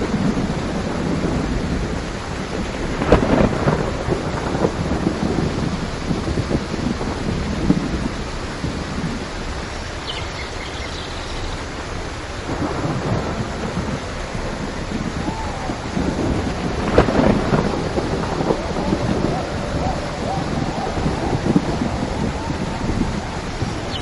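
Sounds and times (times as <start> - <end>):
rolling thunder: 0.0 - 24.0
steady rain: 0.0 - 24.0.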